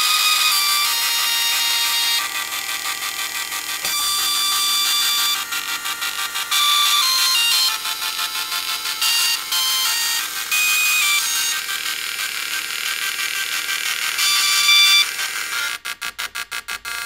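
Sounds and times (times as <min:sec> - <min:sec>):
dot matrix printer playing tune: 0:00.0 - 0:17.0.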